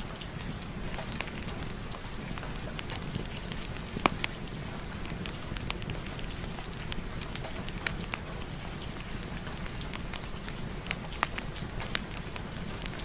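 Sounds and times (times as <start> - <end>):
rain hiss: 0.0 - 13.0
wood fire crackling and popping: 0.0 - 13.0.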